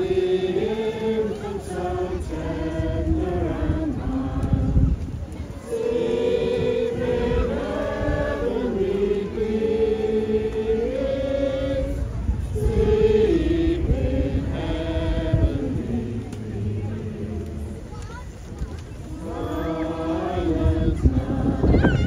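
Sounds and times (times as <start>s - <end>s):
group singing a carol: 0.0s - 18.0s, 19.0s - 22.0s.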